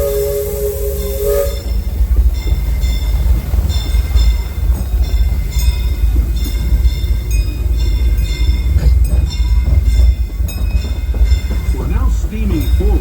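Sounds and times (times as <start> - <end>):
low rumble of moving train cars: 0.0 - 13.0.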